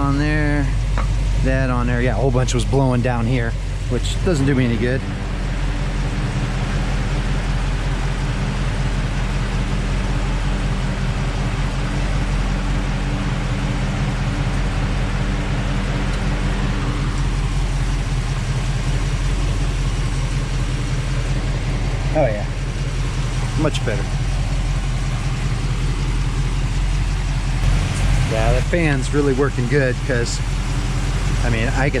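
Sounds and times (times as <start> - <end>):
car engine idling: 0.0 - 32.0
fan blowing air: 0.0 - 32.0.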